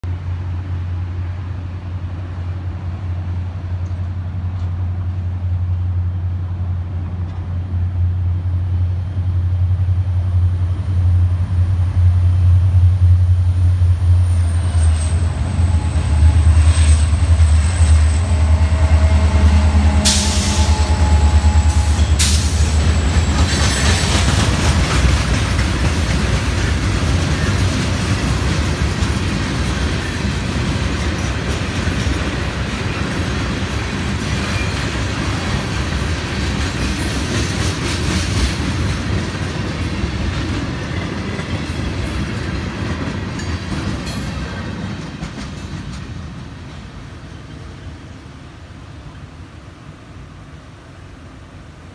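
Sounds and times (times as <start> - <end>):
diesel train engine rumble: 0.0 - 51.9
train wheels rattling on rail: 0.2 - 49.4.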